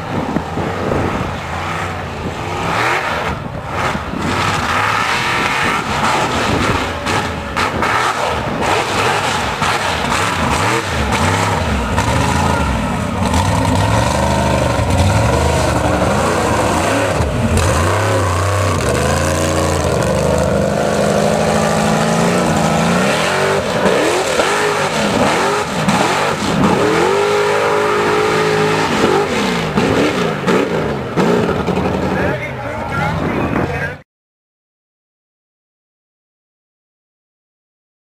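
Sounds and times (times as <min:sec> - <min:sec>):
truck engine revving: 0:00.0 - 0:33.7.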